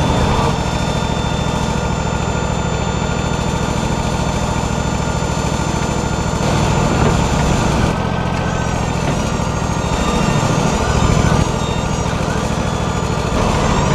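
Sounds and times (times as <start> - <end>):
sawmill engine running: 0.0 - 13.9.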